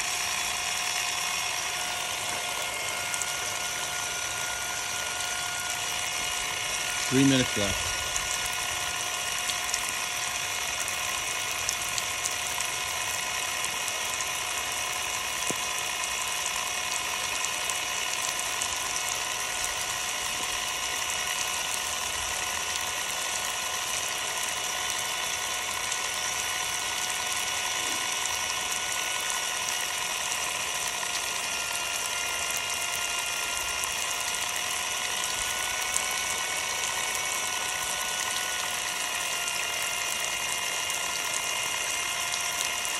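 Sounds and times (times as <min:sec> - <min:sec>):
power tool motor whining: 0:00.0 - 0:42.9.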